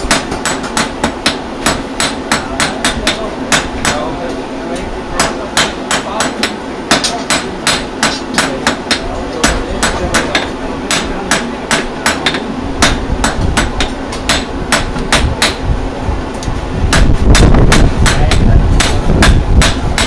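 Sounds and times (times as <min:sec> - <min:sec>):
hammer striking iron on anvil: 0:00.0 - 0:04.1, 0:05.2 - 0:15.6, 0:16.9 - 0:20.0.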